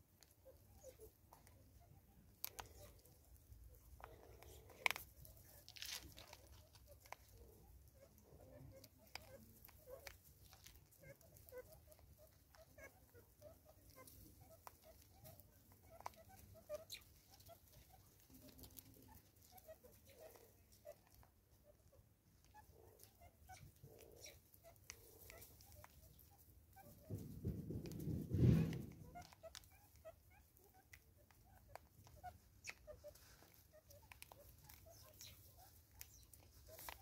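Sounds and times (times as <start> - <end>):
faint clucking calls: 0.0 - 37.0.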